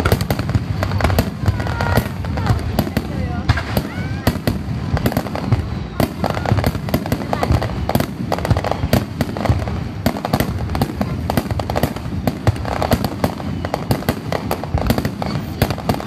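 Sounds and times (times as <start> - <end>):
firework shells bursting: 0.0 - 16.0.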